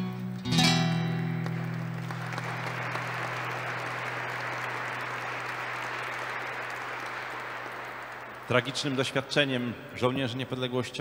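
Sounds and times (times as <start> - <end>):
audience applauding: 0.8 - 10.8.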